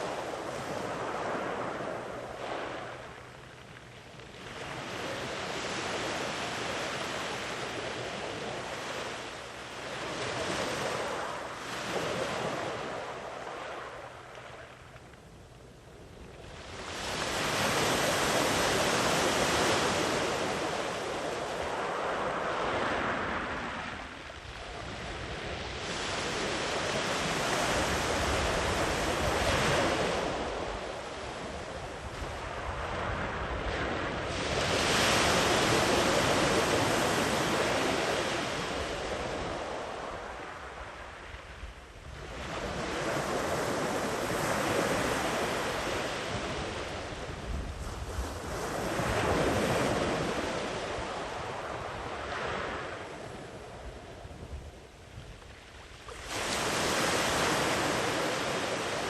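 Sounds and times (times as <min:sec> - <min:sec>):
ocean waves breaking on beach: 0:00.0 - 0:14.9, 0:16.3 - 0:59.0
wind on microphone: 0:00.0 - 0:59.0.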